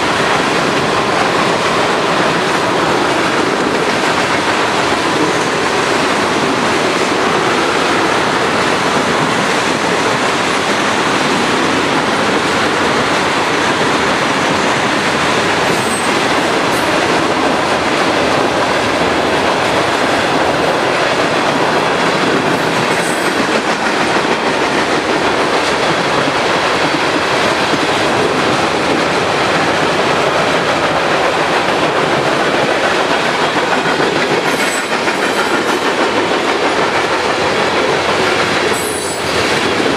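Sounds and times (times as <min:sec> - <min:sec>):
freight train passing: 0:00.0 - 0:39.9
steel wheels on rail: 0:00.0 - 0:39.9.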